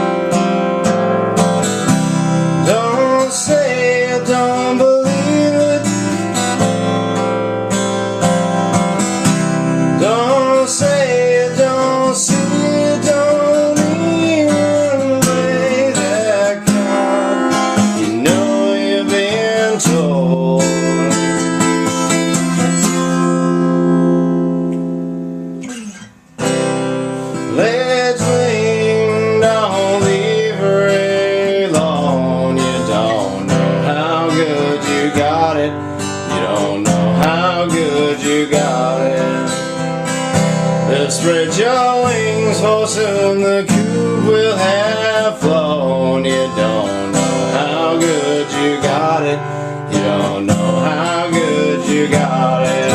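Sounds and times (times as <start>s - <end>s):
strummed acoustic guitar: 0.0s - 52.9s.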